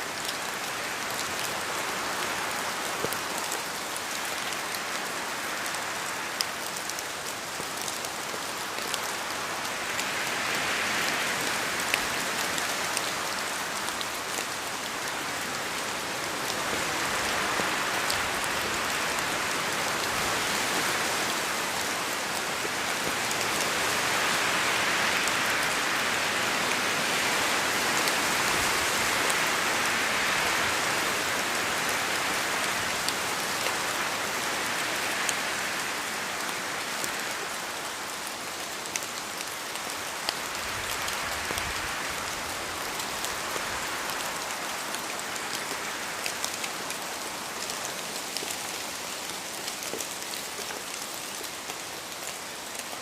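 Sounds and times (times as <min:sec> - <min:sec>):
steady rain in forest: 0:00.0 - 0:53.0
wind in trees: 0:00.0 - 0:53.0.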